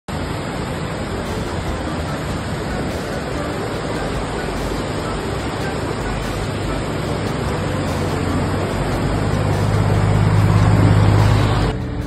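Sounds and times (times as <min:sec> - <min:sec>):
river rushing over rocks: 0:00.1 - 0:12.0.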